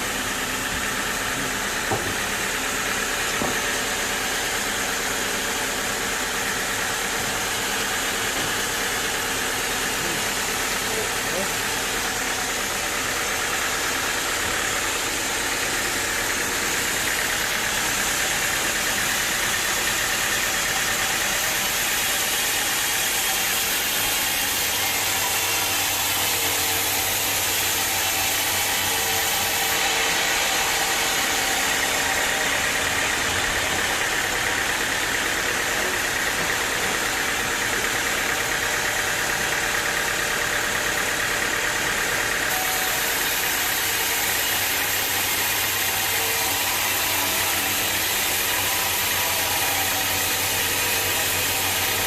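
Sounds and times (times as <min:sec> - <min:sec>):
sawmill machinery hum: 0:00.0 - 0:52.0.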